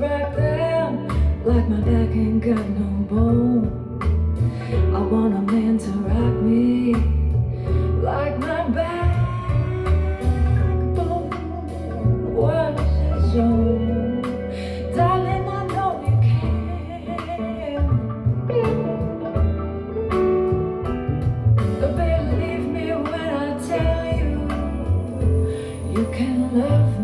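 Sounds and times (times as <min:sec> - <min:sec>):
woman singing: 0:00.0 - 0:19.0, 0:21.7 - 0:27.0
blues guitar: 0:00.0 - 0:27.0.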